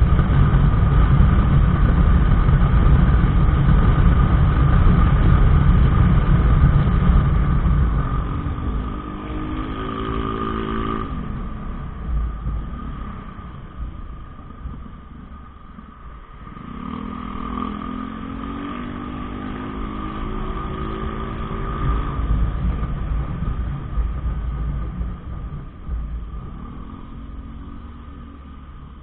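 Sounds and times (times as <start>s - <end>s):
steady high whine: 0.0s - 29.0s
wind rumbling on microphone: 0.0s - 29.0s.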